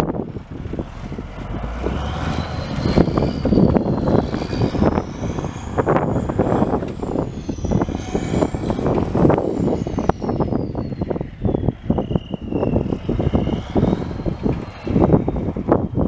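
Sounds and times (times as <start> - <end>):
diesel truck engine rumbling: 0.0 - 16.0
turbocharger whine: 0.0 - 16.0.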